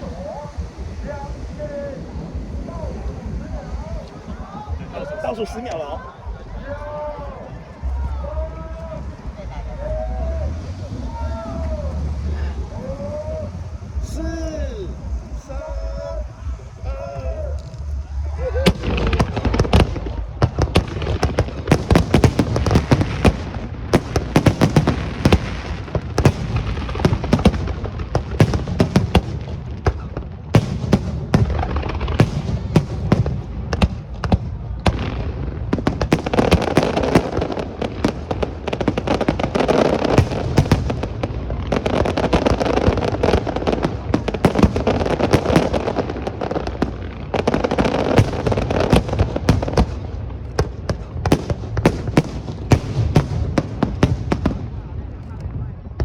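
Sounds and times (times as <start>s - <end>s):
fireworks crackling: 0.0s - 56.0s
fireworks shells booming: 0.0s - 56.0s.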